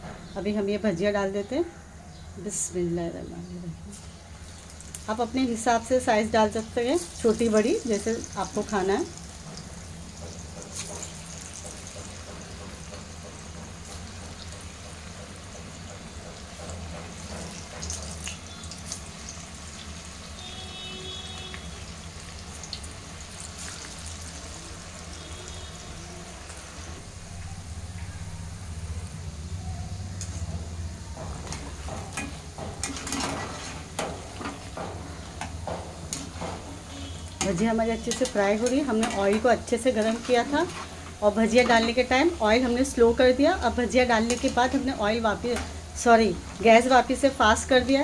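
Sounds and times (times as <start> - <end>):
deep-frying sizzle in oil: 3.8 - 28.0, 28.6 - 48.0.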